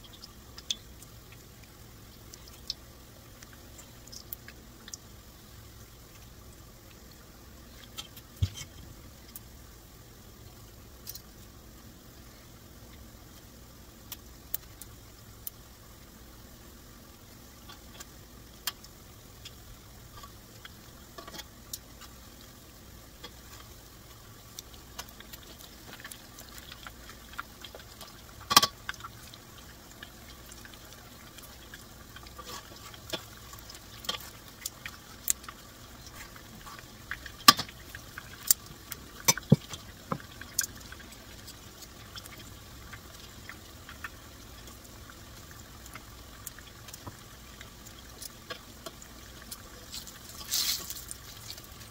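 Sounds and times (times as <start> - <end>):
fritters sizzling in hot oil: 0.0 - 51.9.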